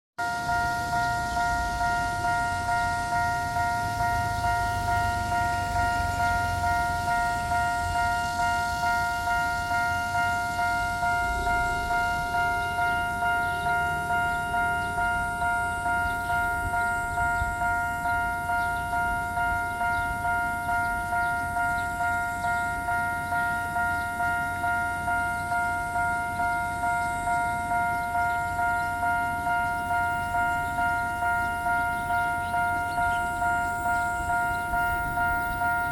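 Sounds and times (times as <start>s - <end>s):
level crossing warning bell: 0.2s - 35.9s.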